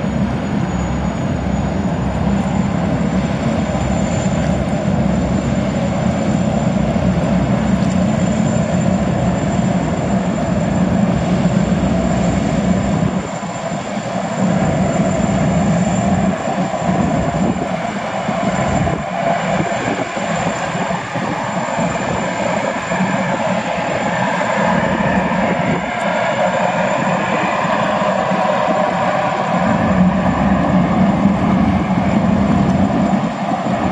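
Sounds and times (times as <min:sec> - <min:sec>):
gas turbines jet-like rush: 0:00.0 - 0:33.9.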